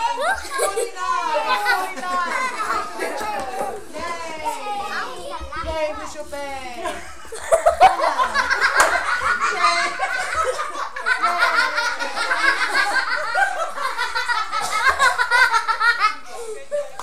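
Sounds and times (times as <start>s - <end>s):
people laughing: 0.0s - 5.2s, 6.6s - 17.0s
overlapping chatter: 0.0s - 17.0s.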